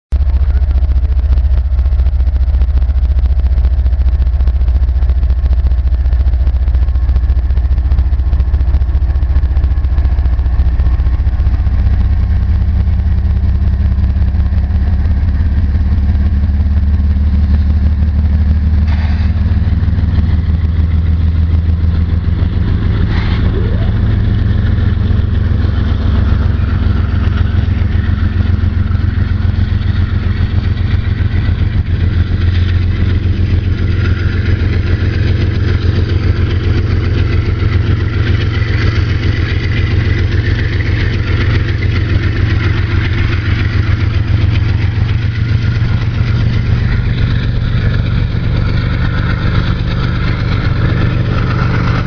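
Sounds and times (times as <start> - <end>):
diesel locomotives droning: 0.1 - 52.0.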